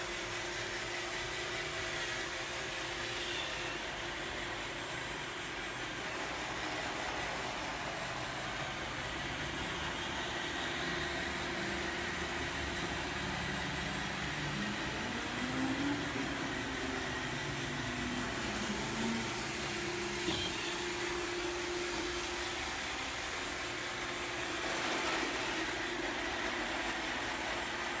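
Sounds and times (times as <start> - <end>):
robot vacuum cleaner whirring: 0.0 - 28.0.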